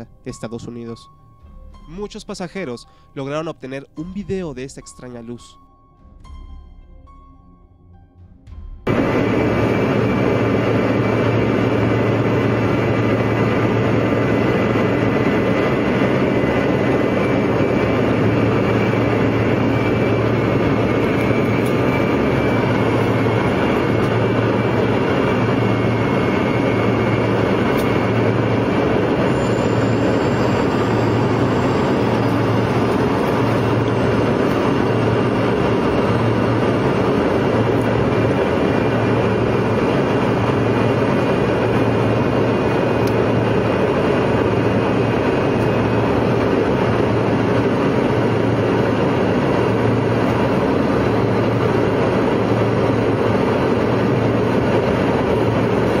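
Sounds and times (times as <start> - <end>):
low hum: 0.0 - 56.0
airliner cabin rush: 8.9 - 56.0.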